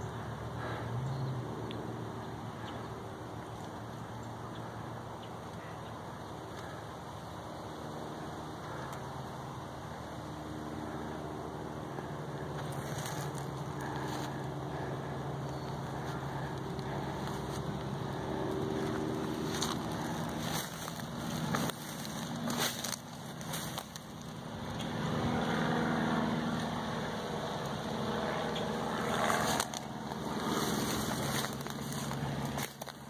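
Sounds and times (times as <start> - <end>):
low mechanical hum: 0.0 - 33.0
rustling outdoor background: 0.0 - 33.0.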